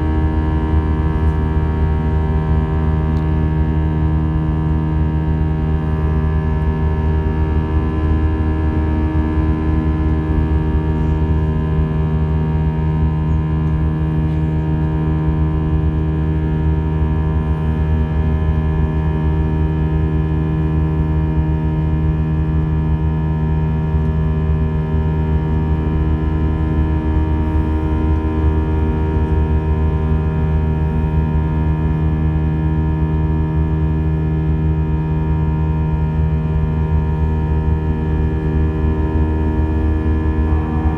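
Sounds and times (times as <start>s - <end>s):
jet engine cabin drone: 0.0s - 40.9s.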